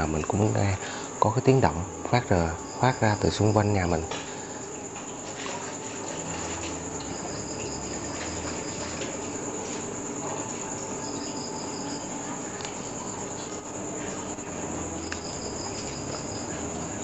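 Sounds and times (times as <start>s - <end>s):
crickets trilling: 0.0s - 17.0s
lower insect call: 0.0s - 17.0s.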